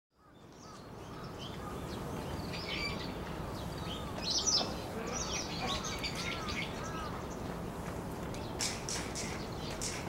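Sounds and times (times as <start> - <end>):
low background noise: 0.2 - 10.0
small birds chirping: 0.2 - 10.0.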